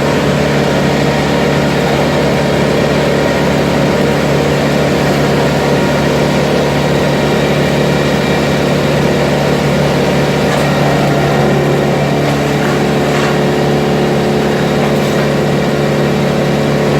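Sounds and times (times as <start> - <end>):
large engine running steadily: 0.0 - 16.9.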